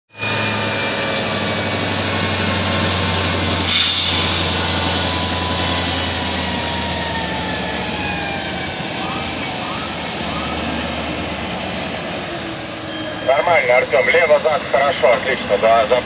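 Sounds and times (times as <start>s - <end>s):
diesel truck engine running: 0.1s - 16.0s.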